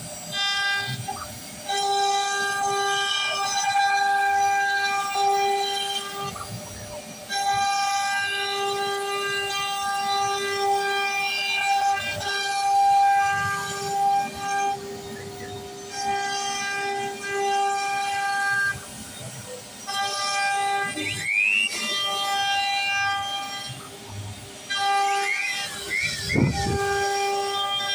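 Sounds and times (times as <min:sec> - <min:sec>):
wood router motors whining: 0:00.0 - 0:27.9.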